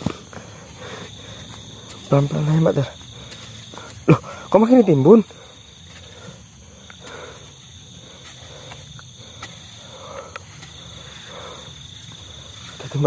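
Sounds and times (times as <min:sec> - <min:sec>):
crickets trilling: 0:00.0 - 0:13.0
metal clicking on earth: 0:00.0 - 0:13.0
spade scraping soil: 0:00.0 - 0:13.0.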